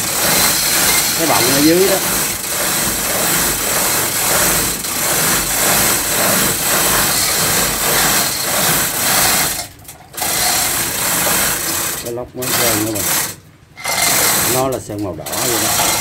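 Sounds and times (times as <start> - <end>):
hoist chain rattling and clicking: 0.0 - 16.0.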